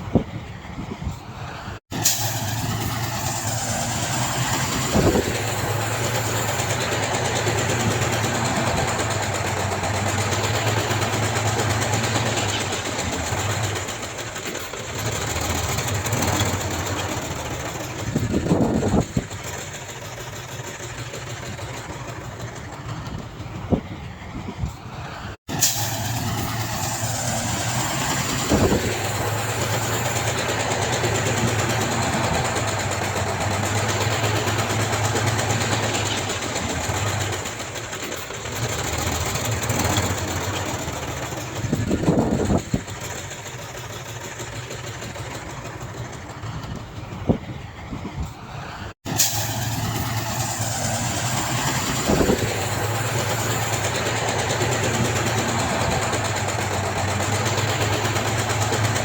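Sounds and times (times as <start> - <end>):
diesel earthmoving machinery: 0.0 - 59.0.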